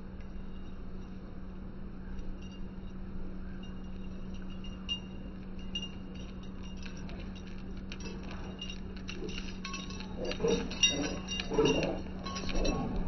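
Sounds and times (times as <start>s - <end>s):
low hum: 0.0s - 13.0s
dog collar tags clinking: 2.1s - 13.0s.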